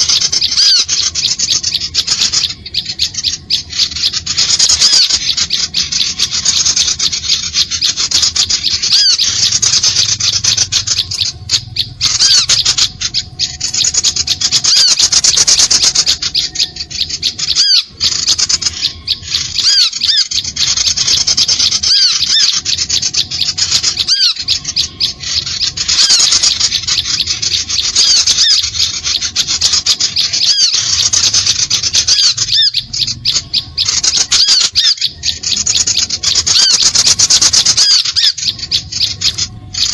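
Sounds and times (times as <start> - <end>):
small birds chattering: 0.0 - 39.9.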